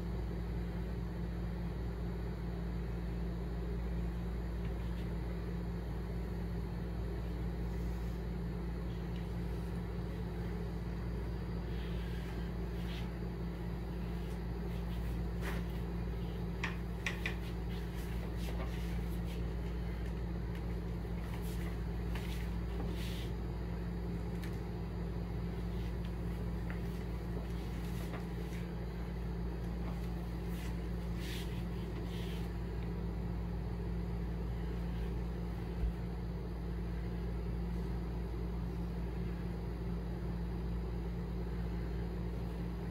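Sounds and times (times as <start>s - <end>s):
low room hum: 0.0s - 42.9s.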